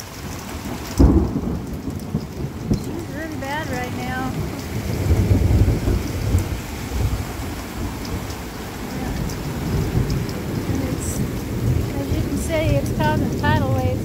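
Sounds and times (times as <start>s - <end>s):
rain hiss: 0.0s - 14.0s
thunder rumble: 0.0s - 14.0s.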